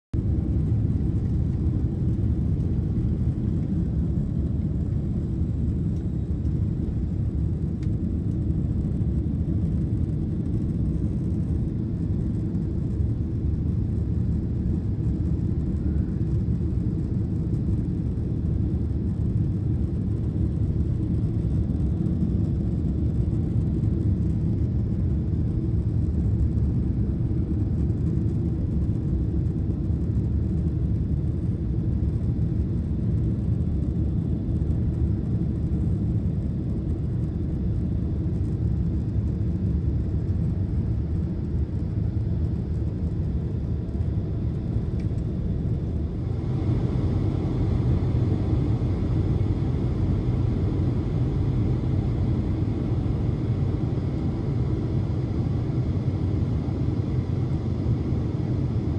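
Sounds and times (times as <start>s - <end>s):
jet engine and airflow rumble: 0.0s - 58.9s.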